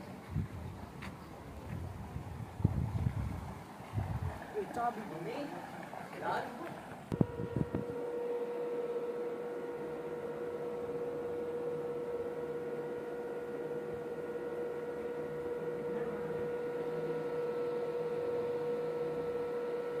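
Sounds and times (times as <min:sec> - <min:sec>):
electrical drive hum: 0:00.0 - 0:20.0.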